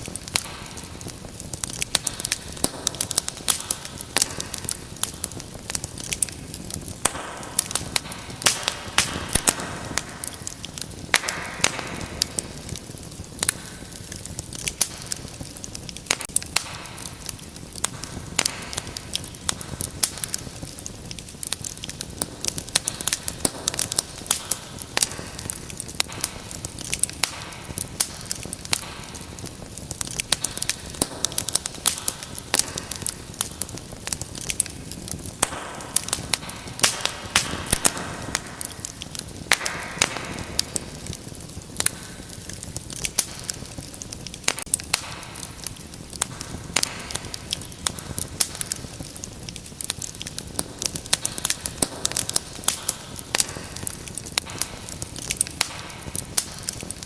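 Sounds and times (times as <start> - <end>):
fire hissing: 0.0 - 57.0
low rumble of flames: 0.0 - 57.0
wood fire crackling: 0.0 - 57.0.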